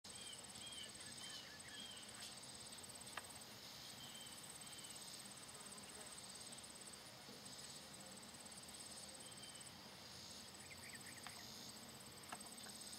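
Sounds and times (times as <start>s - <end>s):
insects chirping high pulses: 0.1s - 12.9s.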